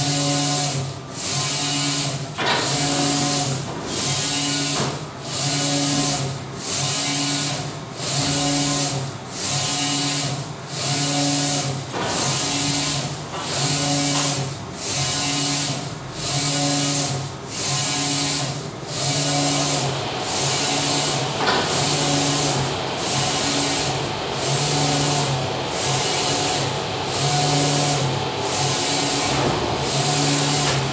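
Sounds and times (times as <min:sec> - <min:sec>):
printer carriage motor whine: 0:00.0 - 0:30.9.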